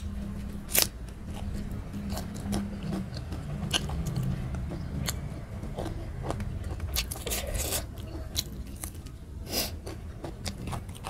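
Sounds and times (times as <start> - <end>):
steady low hum: 0.0 - 11.0
chewing with wet mouth clicks: 0.7 - 11.0.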